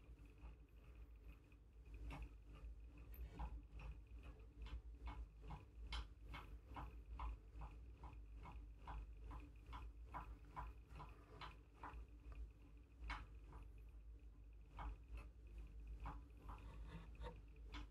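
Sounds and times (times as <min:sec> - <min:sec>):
faint regular ticking: 0:00.0 - 0:17.9.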